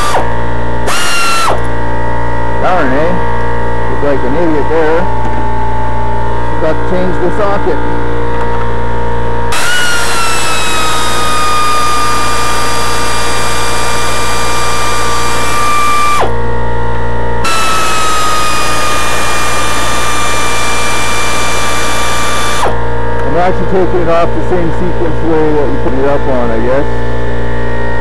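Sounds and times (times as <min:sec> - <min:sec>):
power tool whining: 0:00.0 - 0:23.5
air compressor humming: 0:00.0 - 0:28.0.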